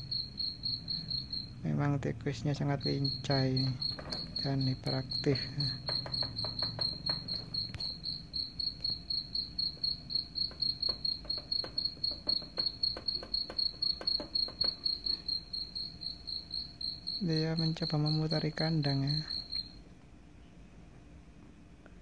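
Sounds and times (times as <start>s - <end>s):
recorded cricket chirping: 0.0s - 22.0s.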